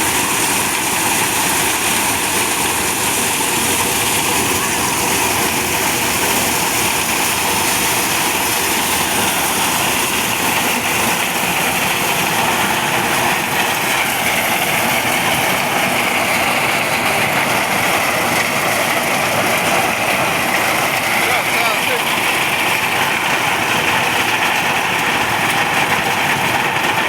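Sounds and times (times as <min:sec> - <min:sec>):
corn sheller engine running: 0:00.0 - 0:27.0.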